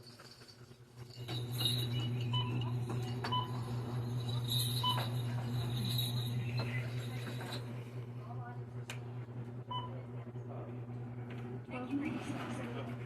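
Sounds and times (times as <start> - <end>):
low hum: 0.9 - 13.0.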